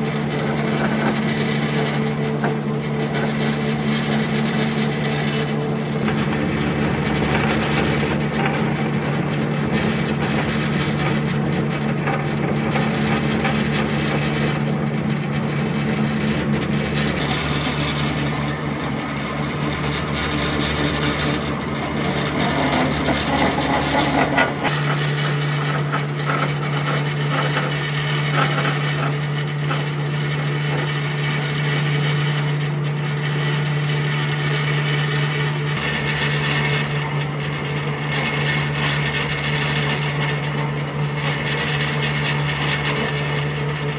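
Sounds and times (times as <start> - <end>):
power tool cutting wood: 0.0 - 43.9.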